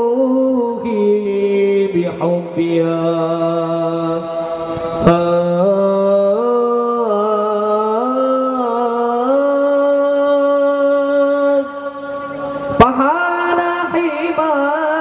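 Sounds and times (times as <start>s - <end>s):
man singing melismatic line: 0.0s - 15.0s.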